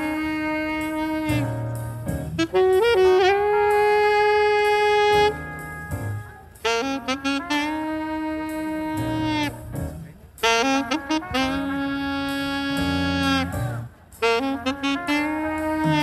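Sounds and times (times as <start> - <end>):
bass line: 0.0 - 16.0
saxophone long held notes: 0.0 - 16.0.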